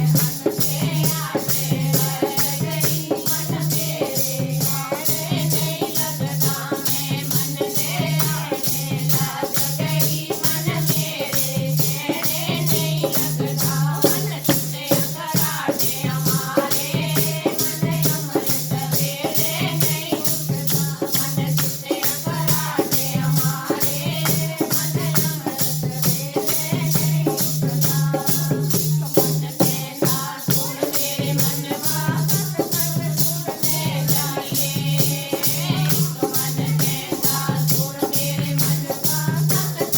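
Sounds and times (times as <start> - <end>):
rattling percussion beat: 0.0 - 39.9.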